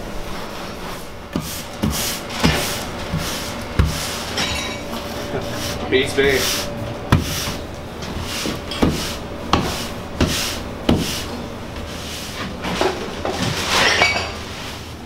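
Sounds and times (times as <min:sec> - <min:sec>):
cleaning tool scraping floor: 0:00.3 - 0:15.0.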